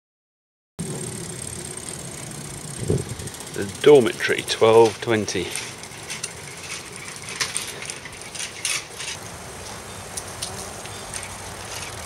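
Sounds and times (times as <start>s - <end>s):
bicycle clicks and rattles: 0.8s - 9.2s, 10.2s - 12.0s.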